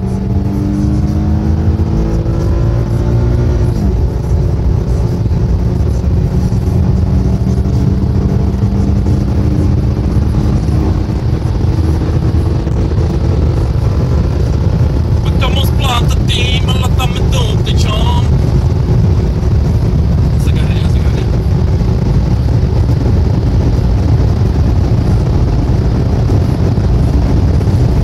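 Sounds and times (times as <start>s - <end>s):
car engine at full throttle: 0.0s - 28.0s
wind and road noise: 0.0s - 28.0s.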